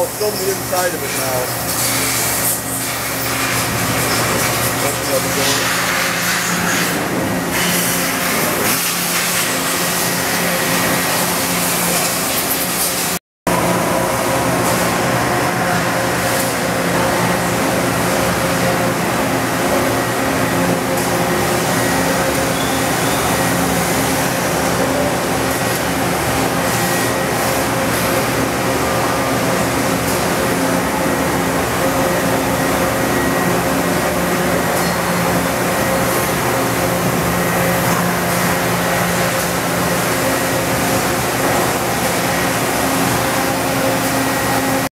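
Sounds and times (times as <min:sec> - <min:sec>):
industrial machinery whirring: 0:00.0 - 0:44.9.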